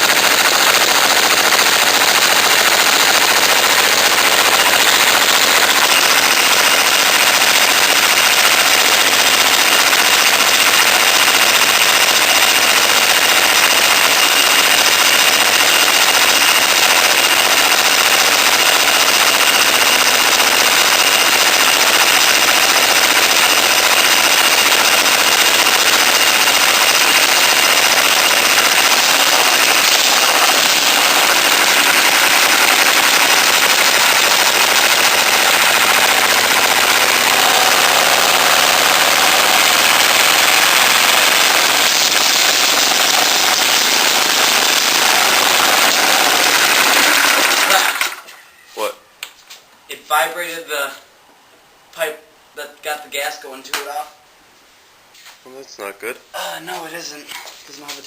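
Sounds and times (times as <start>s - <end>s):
go-kart engine running: 0.0s - 48.3s.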